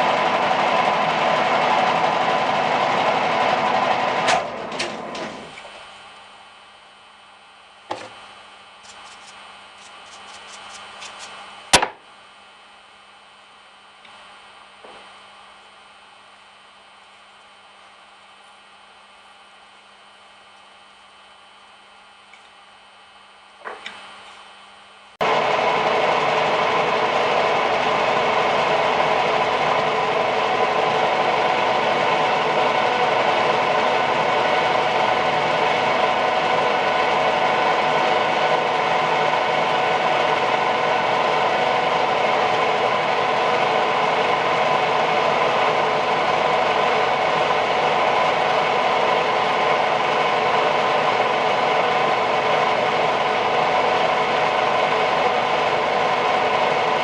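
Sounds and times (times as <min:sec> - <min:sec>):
machine motor whining and humming: 0:00.0 - 0:57.0.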